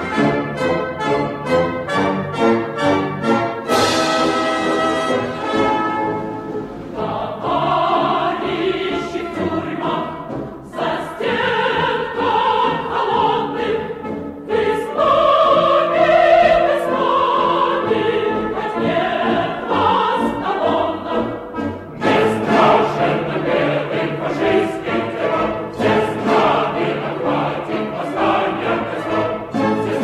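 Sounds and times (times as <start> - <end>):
choir singing sustained notes: 0.0 - 30.0
orchestra playing: 0.0 - 30.0.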